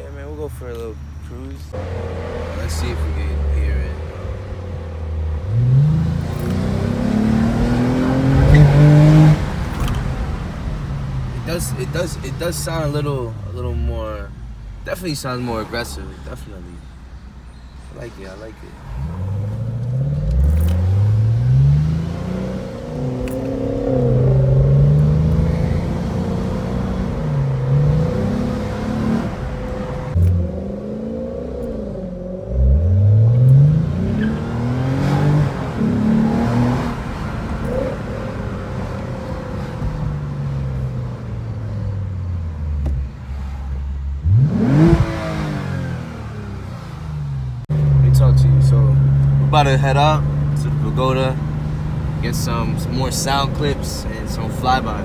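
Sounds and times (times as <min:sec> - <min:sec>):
car engine from inside cabin: 0:00.1 - 0:14.3, 0:18.4 - 0:43.6, 0:44.2 - 0:55.0.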